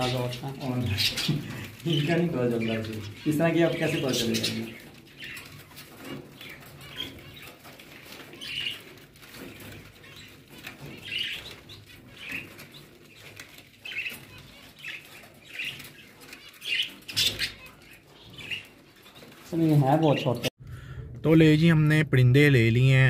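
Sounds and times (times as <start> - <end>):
finches chirping: 0.0 - 20.5
wings flapping: 0.0 - 20.5.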